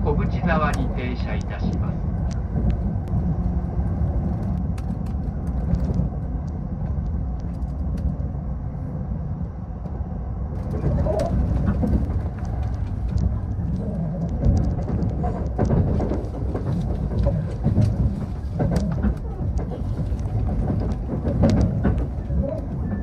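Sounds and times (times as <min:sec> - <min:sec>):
train rumbling at speed: 0:00.0 - 0:23.0.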